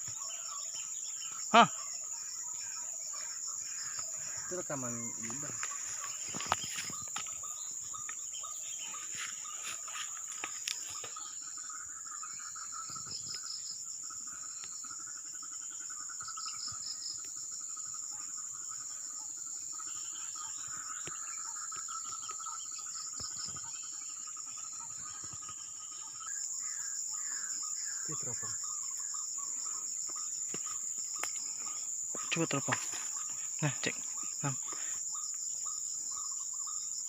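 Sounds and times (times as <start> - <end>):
crickets and insects trilling: 0.0 - 37.0
low rapid pulsing insect call: 0.0 - 37.0.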